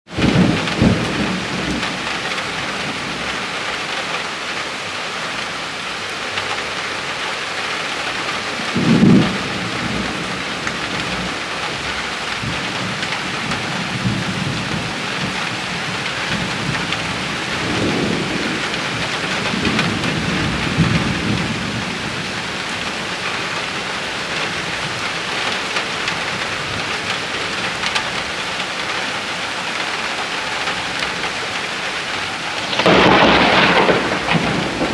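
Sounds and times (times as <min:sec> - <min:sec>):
thunder rolling: 0:00.1 - 0:03.6, 0:08.6 - 0:34.9
steady rain pouring: 0:00.1 - 0:34.9.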